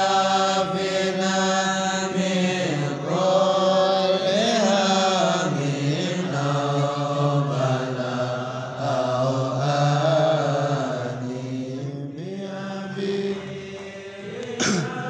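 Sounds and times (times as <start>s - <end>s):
group chanting in unison: 0.0s - 15.0s.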